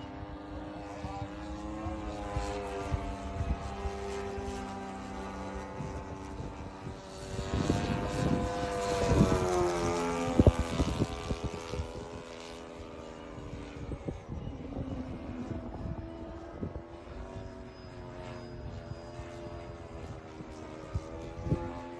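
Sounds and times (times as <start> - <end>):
model aeroplane engine buzzing: 0.0 - 21.9.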